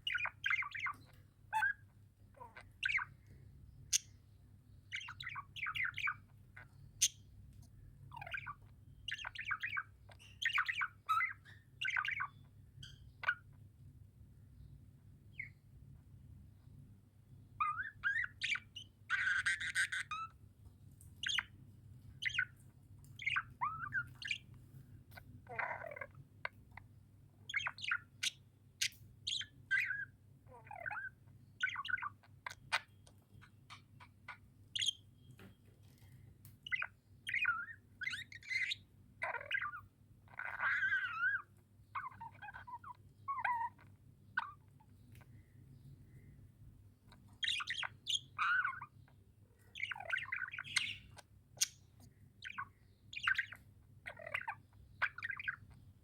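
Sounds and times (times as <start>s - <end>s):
budgerigars chirping and warbling: 0.0s - 13.6s, 17.6s - 20.4s, 21.1s - 56.0s
faint low hum: 0.0s - 56.0s.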